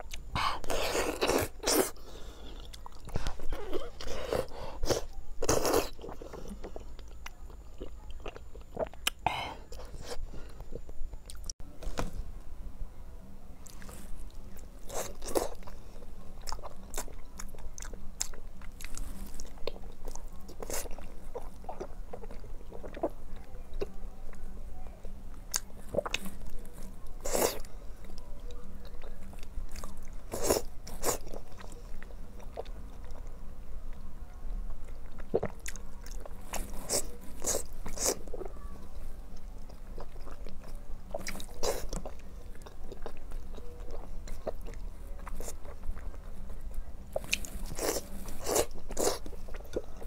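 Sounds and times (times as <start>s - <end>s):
person chewing food: 0.0s - 12.1s, 13.6s - 23.1s, 28.8s - 33.2s, 34.8s - 38.5s, 39.4s - 50.0s.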